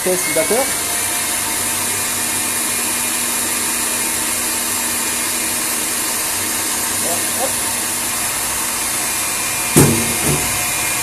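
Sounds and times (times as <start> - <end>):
stand mixer motor hum with hiss: 0.0 - 11.0.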